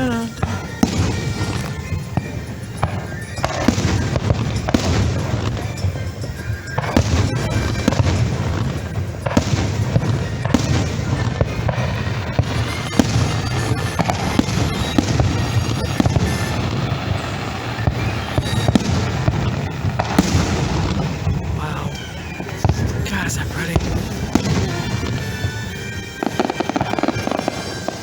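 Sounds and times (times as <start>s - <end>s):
fireworks bursting: 0.0s - 28.0s
show music: 0.0s - 28.0s.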